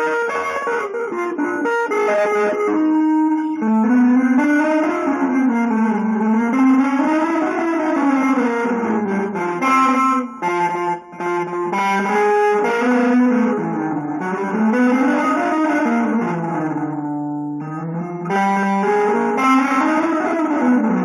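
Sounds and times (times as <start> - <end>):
sliding guitar notes: 0.0 - 21.0.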